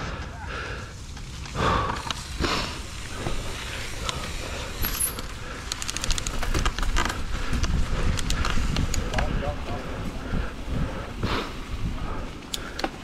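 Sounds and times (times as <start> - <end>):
bike rattling and clicking: 0.0 - 13.0
tyre noise: 0.0 - 13.0
wind rumble on microphone: 1.3 - 13.0.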